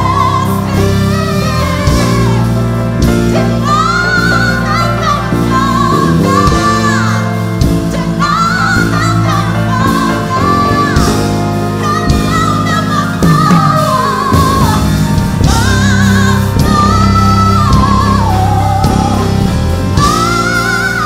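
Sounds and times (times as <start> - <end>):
live band playing worship song: 0.0 - 21.0
person singing: 0.0 - 21.0.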